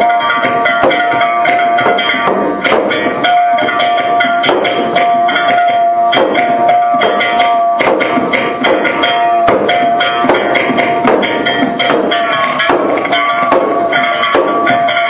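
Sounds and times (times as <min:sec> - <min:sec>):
wood block hits: 0:00.0 - 0:15.0.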